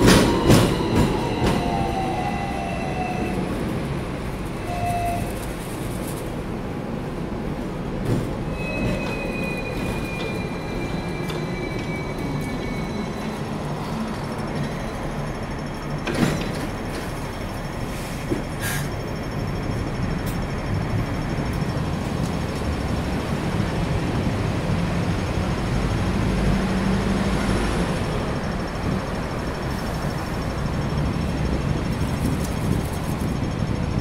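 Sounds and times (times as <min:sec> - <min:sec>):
tram rumble and hum: 0:00.0 - 0:34.0.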